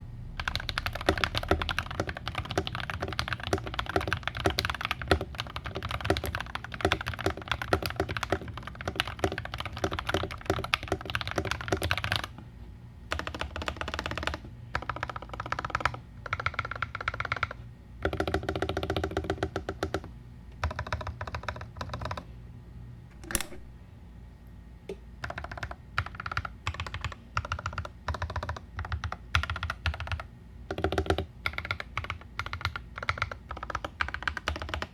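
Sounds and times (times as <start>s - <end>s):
mechanical keyboard typing: 0.4s - 12.4s, 13.1s - 22.2s, 23.2s - 23.7s, 25.2s - 34.9s.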